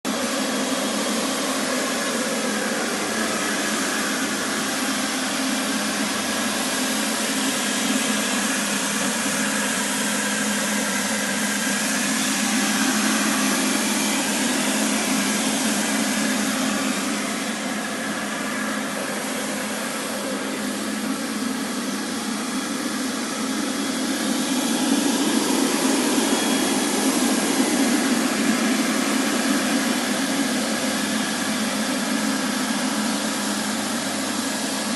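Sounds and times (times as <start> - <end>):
floor scrubber motor whirring: 0.1 - 34.9.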